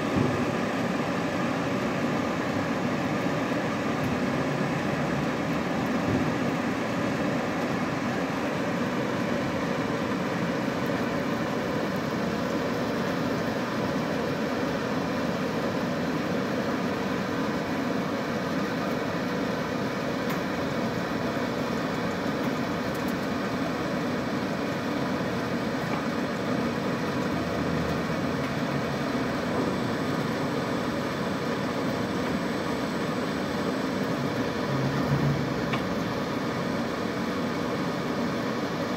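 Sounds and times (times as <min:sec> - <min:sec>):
cutting machine hum and hiss: 0:00.0 - 0:38.9.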